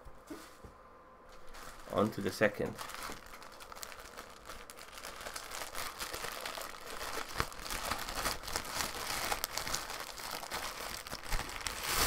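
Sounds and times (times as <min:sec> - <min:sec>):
plastic mailer bag crinkling: 0:01.4 - 0:12.0.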